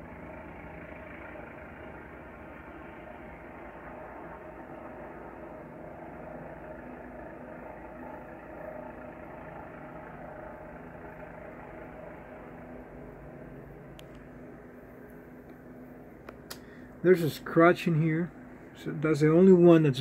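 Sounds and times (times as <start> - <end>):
faint hum: 0.0 - 20.0
low background rumble: 0.0 - 20.0.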